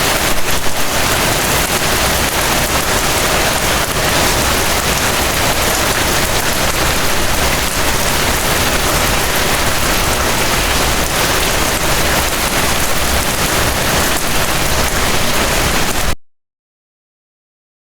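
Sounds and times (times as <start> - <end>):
heavy rain falling: 0.0 - 16.2.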